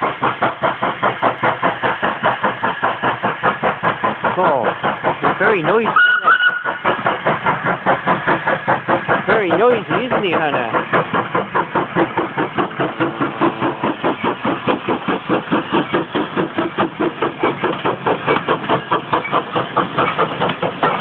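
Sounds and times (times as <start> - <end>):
steam locomotive chuffing: 0.0 - 21.0.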